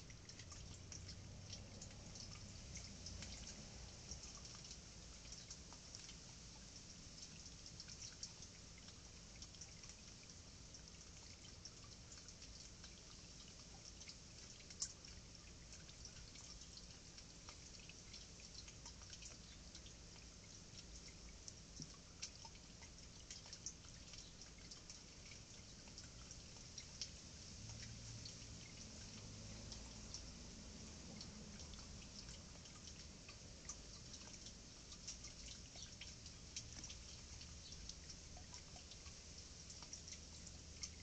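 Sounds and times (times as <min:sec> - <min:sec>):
tiny soft ticks: 0:00.0 - 0:41.0.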